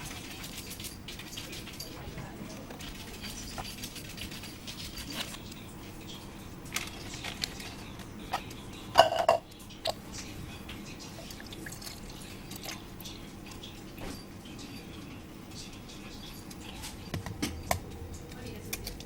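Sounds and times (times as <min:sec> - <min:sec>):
utensils and dishes clinking: 0:00.0 - 0:19.0.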